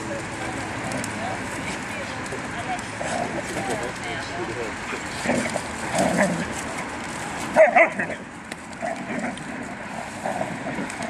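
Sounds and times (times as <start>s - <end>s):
dogs playing rough: 0.2s - 4.0s, 4.7s - 11.0s.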